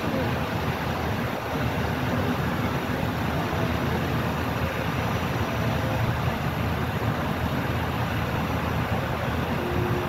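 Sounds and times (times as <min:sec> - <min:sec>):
ferry machinery rumble: 0:00.0 - 0:10.0
propeller-churned water washing: 0:00.0 - 0:10.0.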